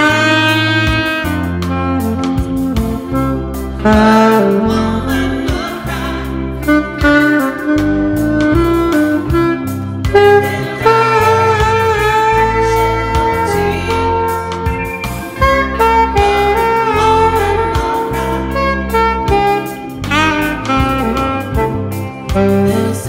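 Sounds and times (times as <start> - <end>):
alto saxophone melody: 0.0 - 23.0
backing track bass line: 0.0 - 23.0.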